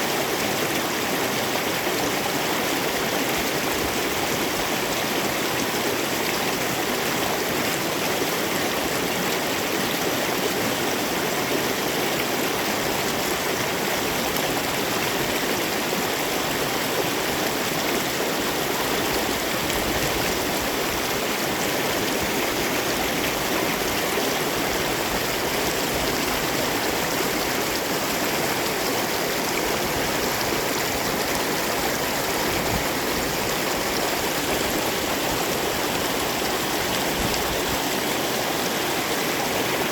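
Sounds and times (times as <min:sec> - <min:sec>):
meltwater torrent rushing: 0:00.0 - 0:39.9.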